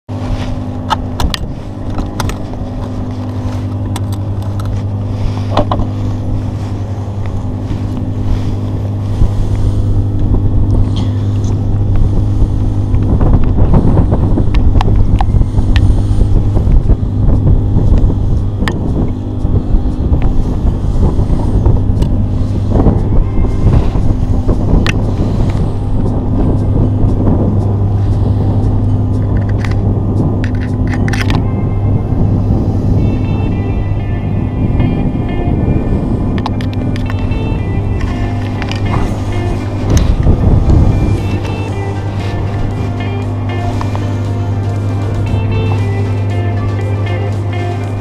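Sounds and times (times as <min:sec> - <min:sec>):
steady low drone: 0:00.1 - 0:48.0
wind buffeting microphone: 0:00.1 - 0:48.0.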